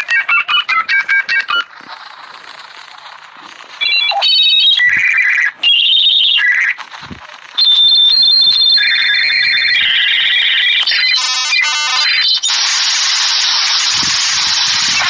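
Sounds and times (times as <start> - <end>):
dial-up modem handshake: 0.0 - 12.8.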